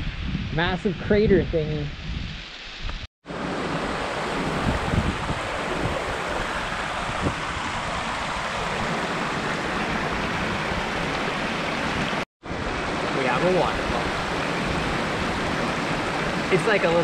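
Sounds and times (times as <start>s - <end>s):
rushing water: 3.2s - 17.0s.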